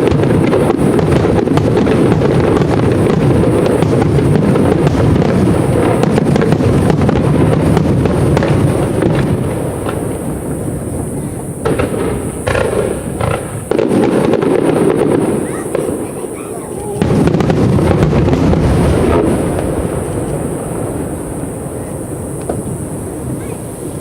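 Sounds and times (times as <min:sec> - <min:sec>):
firework shell bursts: 0:00.0 - 0:24.0.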